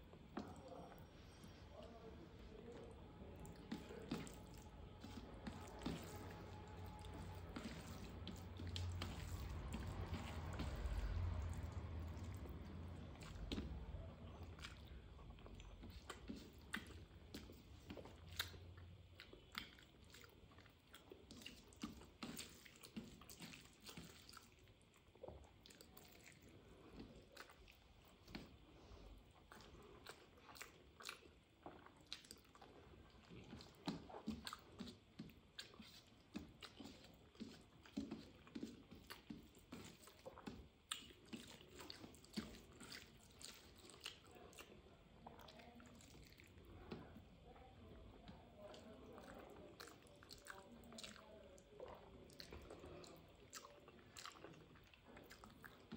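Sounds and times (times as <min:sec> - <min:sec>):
person chewing and lip-smacking: 0:03.2 - 0:28.5, 0:29.3 - 0:47.1, 0:48.6 - 0:55.9.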